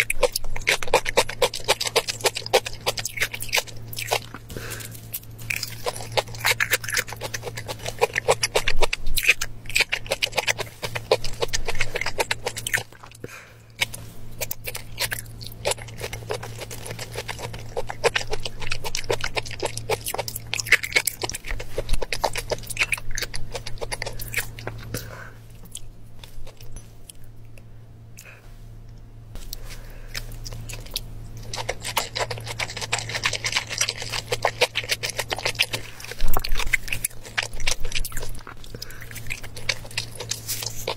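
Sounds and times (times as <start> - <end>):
person chewing and eating: 0.0 - 40.9
steady low hum: 0.0 - 40.9.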